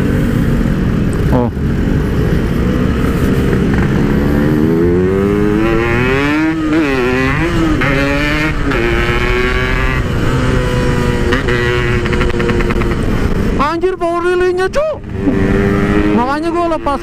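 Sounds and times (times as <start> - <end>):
two-stroke motorcycle accelerating: 0.0 - 17.0.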